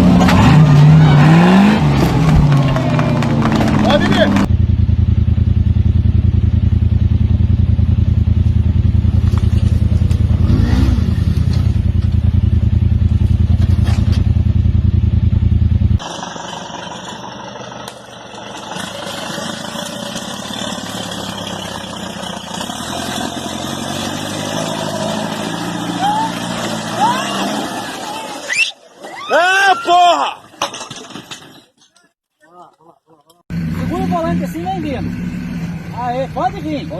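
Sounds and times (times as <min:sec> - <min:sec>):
off-road vehicle engine running: 0:00.0 - 0:28.5, 0:33.5 - 0:36.9.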